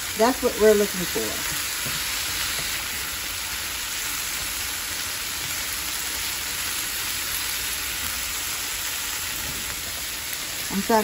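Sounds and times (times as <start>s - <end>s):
vegetables sizzling in oil: 0.0s - 11.0s
spatula stirring in pan: 0.5s - 10.7s.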